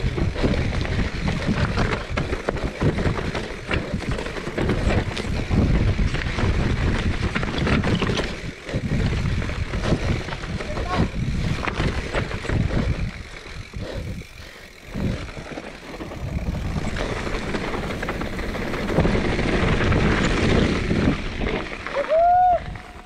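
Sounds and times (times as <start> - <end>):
bike tyres crunching on rocks: 0.0 - 23.0
wind buffeting microphone: 0.0 - 23.0.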